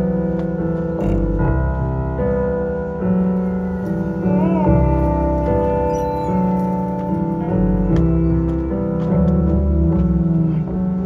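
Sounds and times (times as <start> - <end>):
piano chords: 0.0 - 11.0
steady bass: 0.0 - 11.0.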